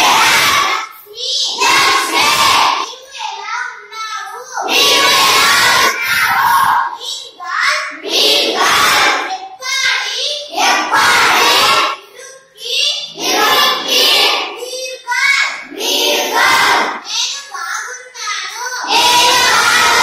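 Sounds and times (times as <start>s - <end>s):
children chanting in unison: 0.0s - 3.4s, 4.2s - 20.0s.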